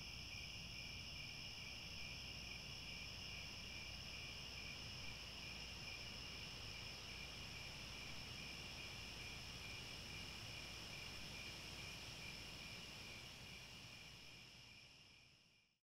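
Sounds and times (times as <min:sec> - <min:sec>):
insects trilling: 0:00.0 - 0:15.3.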